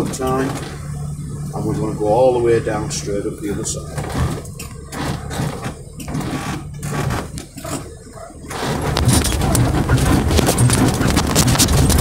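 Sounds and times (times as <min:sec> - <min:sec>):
vehicle engine running: 0:00.0 - 0:12.0
vehicle rattling over gravel: 0:00.0 - 0:12.0.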